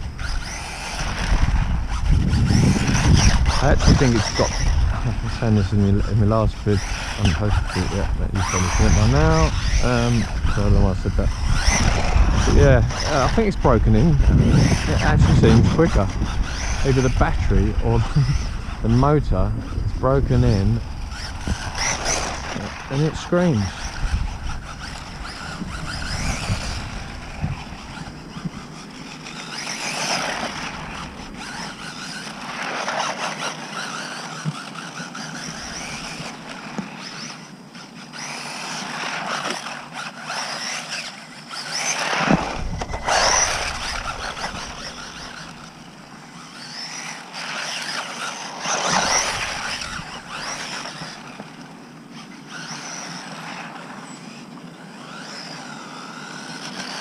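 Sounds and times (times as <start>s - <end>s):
rc truck electric motor whining: 0.0s - 57.0s.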